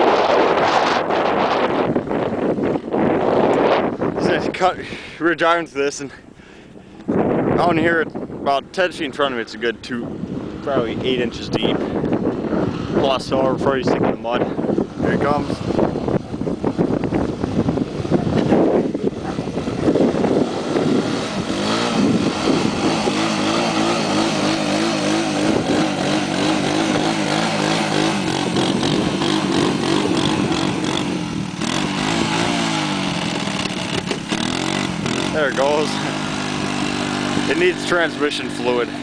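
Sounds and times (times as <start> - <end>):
atv engine revving under load: 0.0 - 5.1, 8.7 - 39.0.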